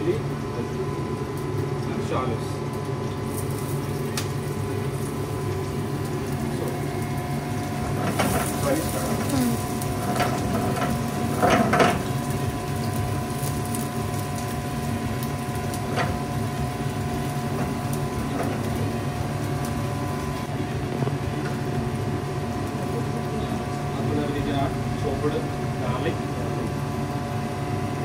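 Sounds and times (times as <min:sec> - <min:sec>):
kitchen exhaust hood humming: 0:00.0 - 0:28.0.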